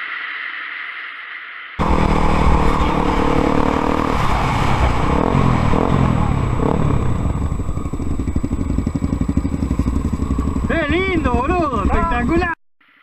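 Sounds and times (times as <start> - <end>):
motorcycle engine running: 1.8 - 12.6.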